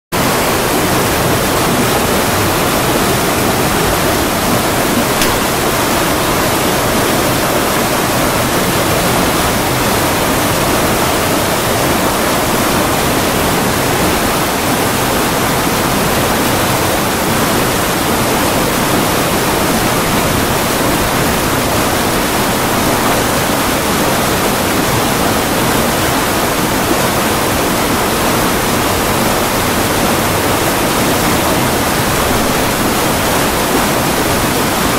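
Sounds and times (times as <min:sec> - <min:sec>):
water rushing over a weir: 0:00.2 - 0:34.9.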